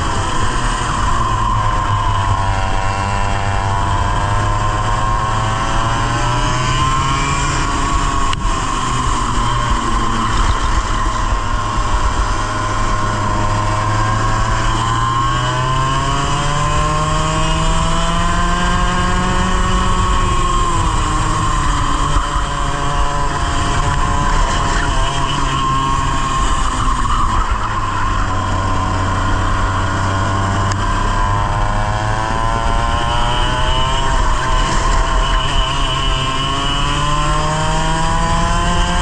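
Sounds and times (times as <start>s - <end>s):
kart engine revving: 0.0s - 39.0s.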